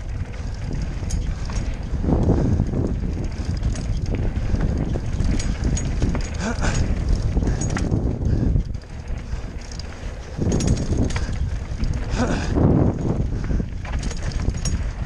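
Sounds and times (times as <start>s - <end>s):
bike rattling and clicking: 0.0s - 15.0s
tyres rolling on dirt trail: 0.0s - 15.0s
wind buffeting microphone: 0.0s - 15.0s.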